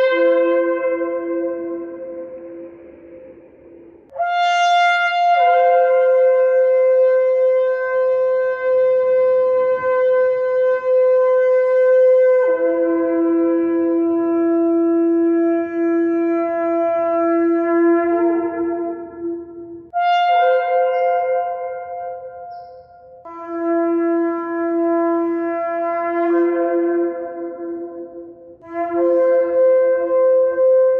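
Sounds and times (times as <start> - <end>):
shofar blast: 0.0 - 22.5, 23.1 - 30.9.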